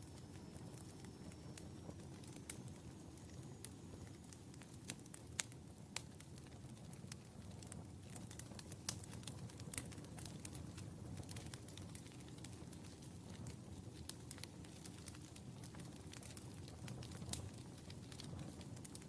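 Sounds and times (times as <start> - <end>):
fire flames rumbling: 0.0 - 19.0
logs crackling and popping: 0.0 - 19.0.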